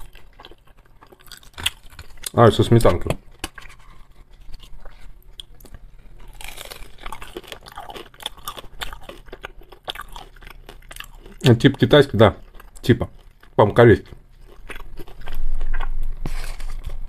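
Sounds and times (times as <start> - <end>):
chewing crunches: 0.0 - 2.5, 3.2 - 17.0.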